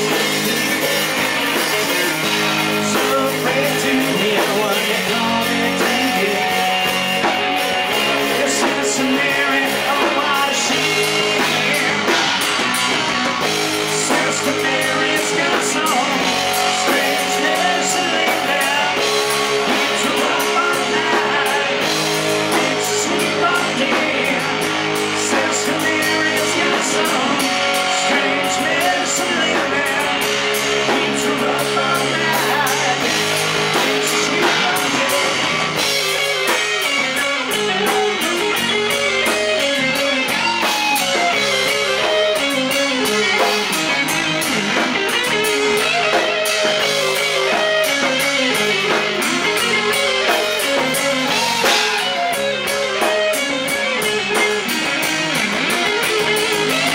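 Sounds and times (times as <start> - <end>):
live rock band playing: 0.0 - 56.9.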